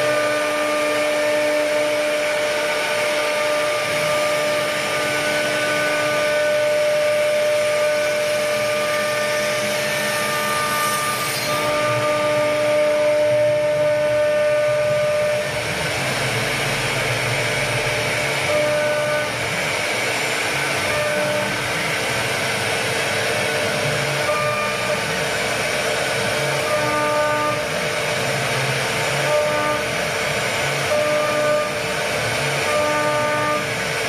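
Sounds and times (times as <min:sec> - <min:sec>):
router cutting wood: 0:00.0 - 0:34.0
router spindle whining: 0:00.0 - 0:34.0.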